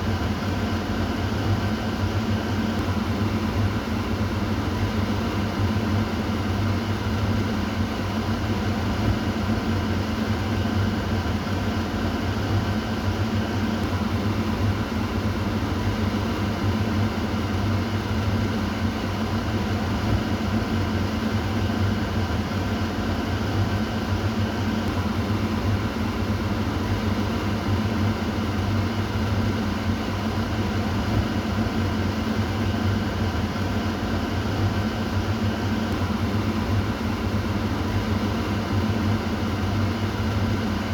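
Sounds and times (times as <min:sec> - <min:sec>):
exhaust fan running: 0:00.0 - 0:40.9.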